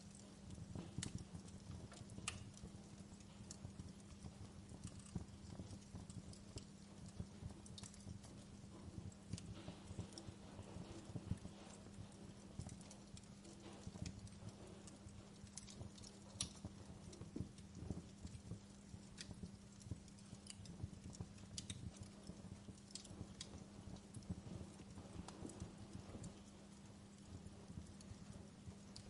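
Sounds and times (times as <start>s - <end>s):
steady low hum: 0.0s - 29.0s
wood fire crackling: 0.0s - 29.0s.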